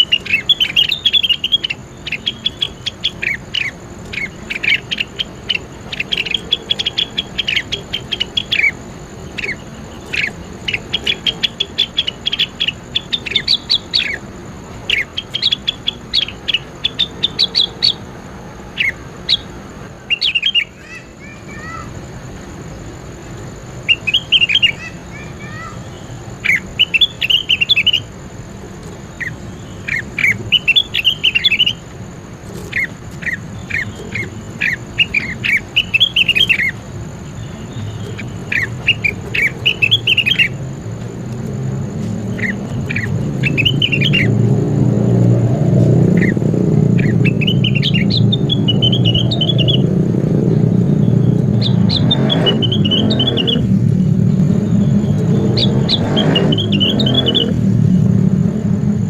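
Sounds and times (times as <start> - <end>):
bird chirps and trills: 0.0 - 59.0.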